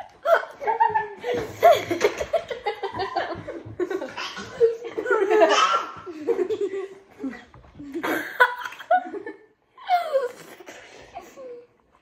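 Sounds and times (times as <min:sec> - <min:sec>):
boys laughing and giggling: 0:00.0 - 0:11.8.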